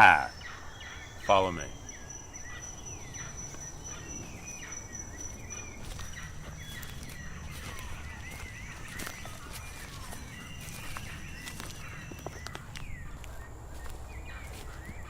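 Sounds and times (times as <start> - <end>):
birds chirping: 0.0 - 15.0
high insect drone: 0.0 - 15.0.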